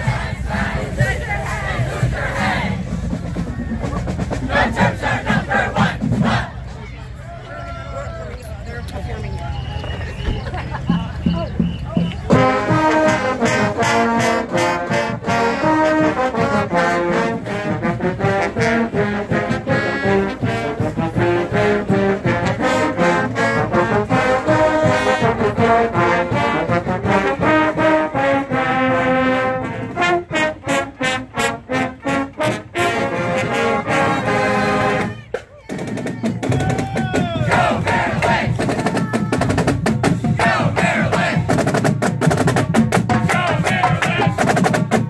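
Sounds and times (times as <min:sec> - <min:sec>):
marching band brass playing: 0:00.0 - 0:06.9, 0:10.2 - 0:45.0.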